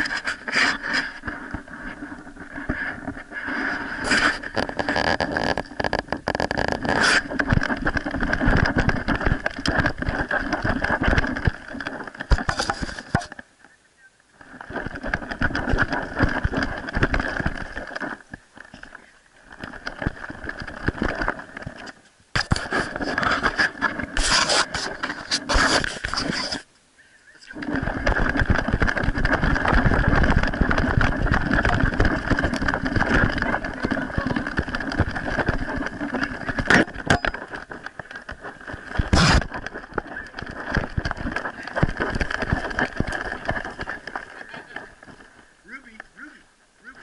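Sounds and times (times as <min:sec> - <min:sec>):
camera scraping and rubbing: 0:00.0 - 0:13.4, 0:14.4 - 0:19.0, 0:19.6 - 0:26.7, 0:27.6 - 0:45.5.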